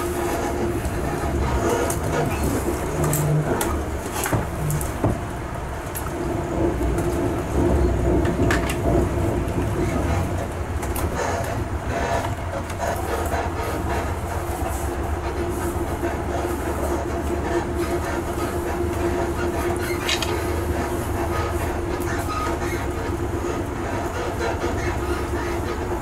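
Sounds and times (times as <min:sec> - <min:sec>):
train rumble: 0:00.0 - 0:26.0
wheels clicking on track: 0:00.0 - 0:26.0.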